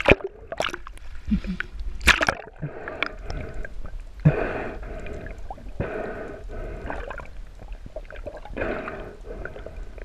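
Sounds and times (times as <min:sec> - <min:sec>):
underwater water rushing: 0:00.0 - 0:10.0.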